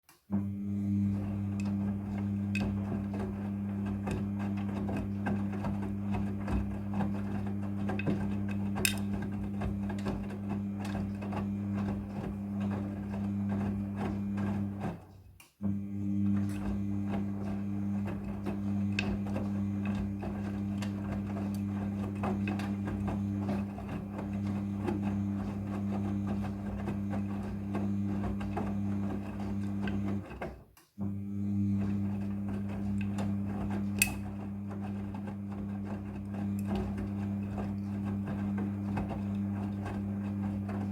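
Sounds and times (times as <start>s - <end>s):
washing machine motor hum: 0.3s - 40.9s.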